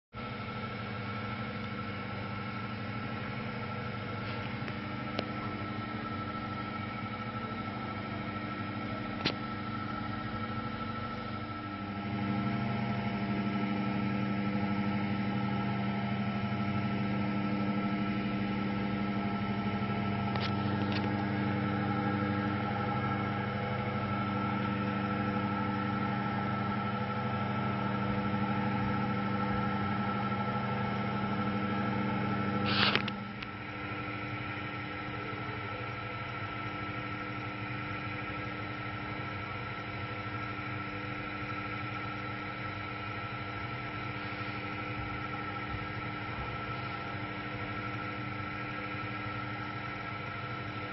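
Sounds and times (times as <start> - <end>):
potter's wheel motor humming: 0.2 - 50.9.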